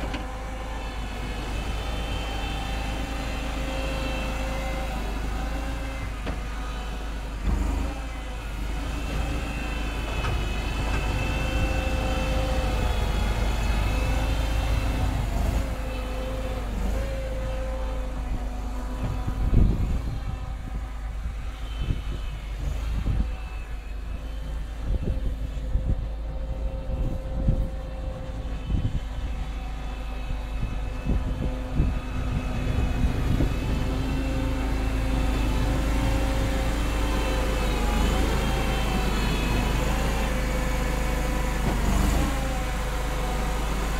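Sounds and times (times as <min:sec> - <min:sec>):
wheel loader engine droning: 0:00.0 - 0:43.9.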